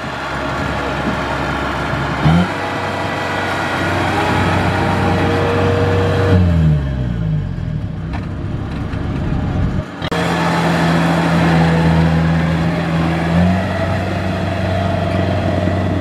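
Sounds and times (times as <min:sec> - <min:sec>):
combine harvester diesel engine revving: 0:00.0 - 0:16.0.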